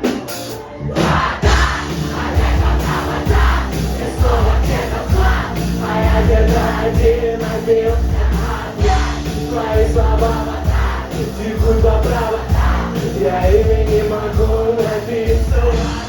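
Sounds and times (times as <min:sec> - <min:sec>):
heavy drum beat: 0:00.0 - 0:16.0
rock band playing loud: 0:00.0 - 0:16.0
sustained guitar chords: 0:01.4 - 0:16.0.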